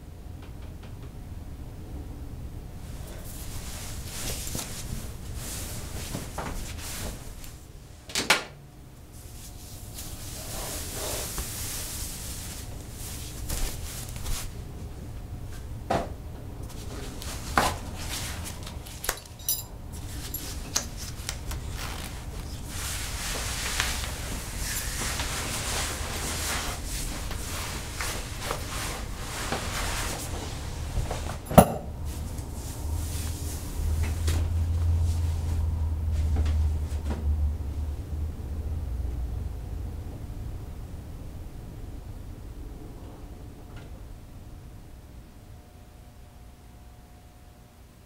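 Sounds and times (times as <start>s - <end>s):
low rumble and hiss: 0.0s - 48.0s.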